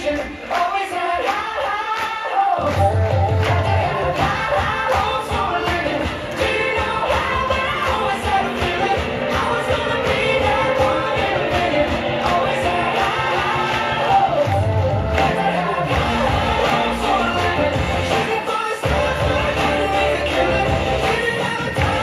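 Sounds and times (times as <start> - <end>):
pop backing music with beat: 0.0 - 22.0
children singing: 3.6 - 22.0.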